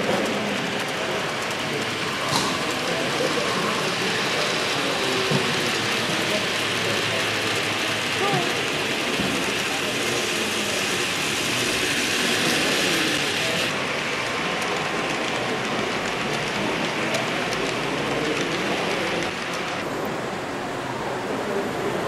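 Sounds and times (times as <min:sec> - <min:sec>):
hall background noise: 0:00.0 - 0:22.0
model train wheels rolling on rails: 0:00.0 - 0:22.0.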